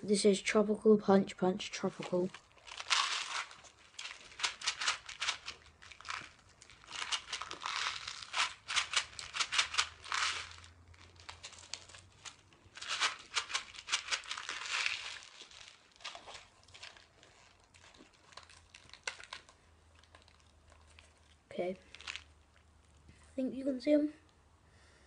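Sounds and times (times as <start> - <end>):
candy wrapper crinkling: 1.7 - 23.1.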